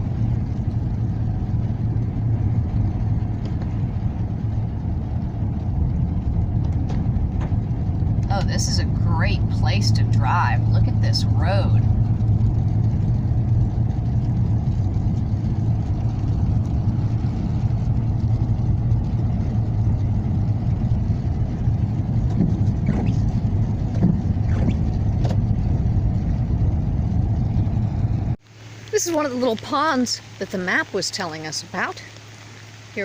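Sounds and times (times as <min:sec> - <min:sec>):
engine and tyre hum in cabin: 0:00.0 - 0:30.9.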